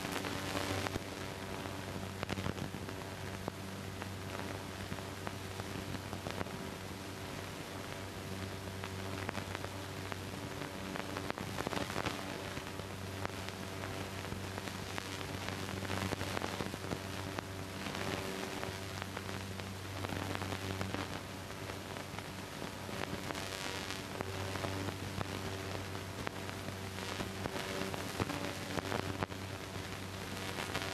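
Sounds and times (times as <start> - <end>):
film soundtrack crackling hiss: 0.0 - 30.9.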